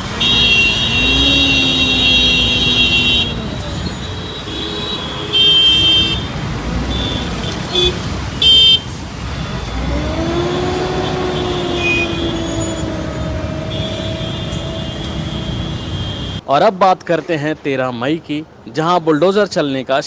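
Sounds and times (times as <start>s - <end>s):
car horns honking: 0.0s - 16.4s
street traffic: 0.0s - 20.0s.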